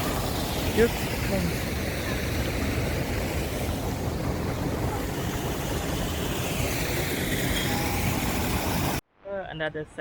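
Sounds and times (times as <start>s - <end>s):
rushing water: 0.0s - 9.0s.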